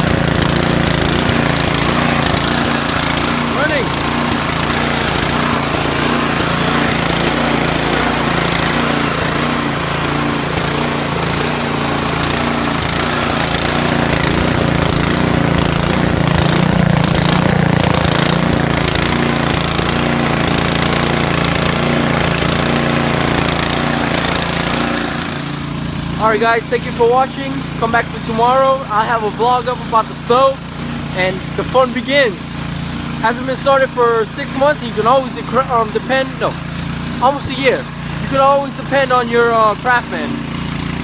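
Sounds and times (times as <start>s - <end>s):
small gas engine chugging: 0.0s - 41.0s.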